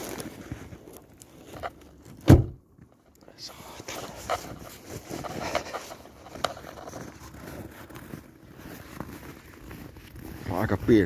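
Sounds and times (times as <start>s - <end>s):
footsteps in snow: 0.0s - 2.2s, 2.8s - 11.0s
steady rustling noise: 0.0s - 11.0s.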